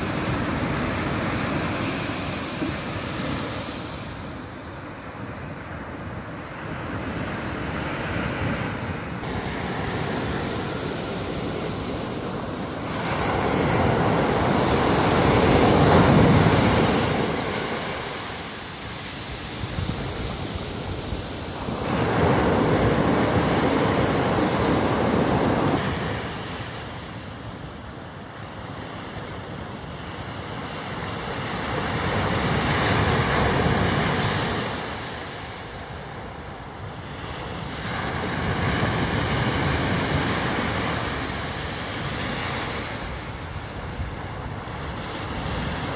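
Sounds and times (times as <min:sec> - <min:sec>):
waves breaking on beach: 0:00.0 - 0:45.9.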